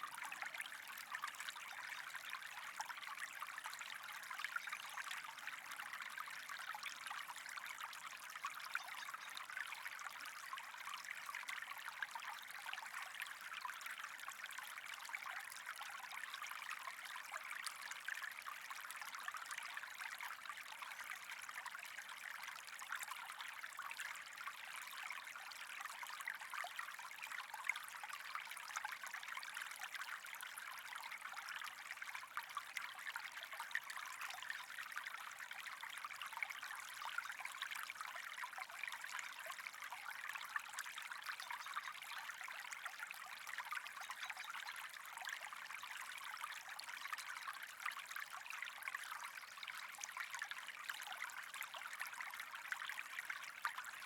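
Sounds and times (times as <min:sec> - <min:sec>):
trickling flowing water: 0:00.0 - 0:54.0.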